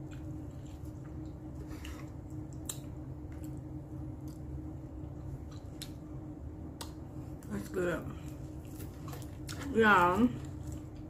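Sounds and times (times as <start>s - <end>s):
person chewing soft food: 0.0s - 7.5s, 8.2s - 9.7s, 10.4s - 11.0s
steady low hum: 0.0s - 11.0s.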